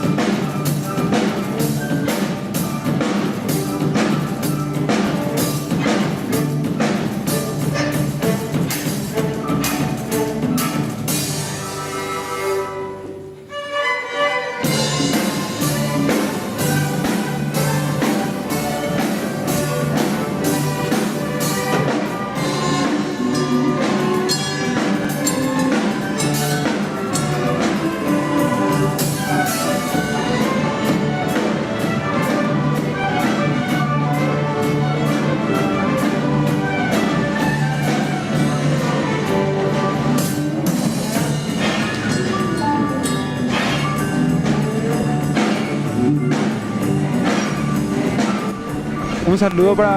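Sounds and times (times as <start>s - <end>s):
orchestra bowed strings: 0.0s - 49.9s.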